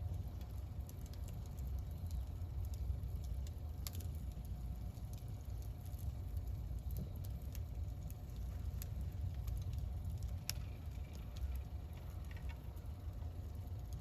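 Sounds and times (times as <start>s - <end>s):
campfire crackling and popping: 0.0s - 14.0s
steady low rumble: 0.0s - 14.0s.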